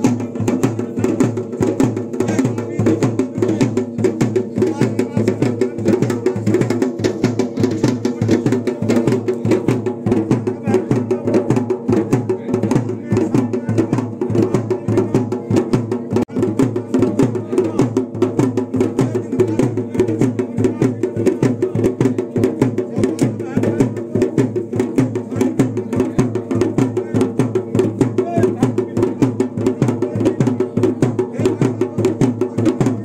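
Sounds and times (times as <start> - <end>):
fast drumming: 0.0 - 33.0.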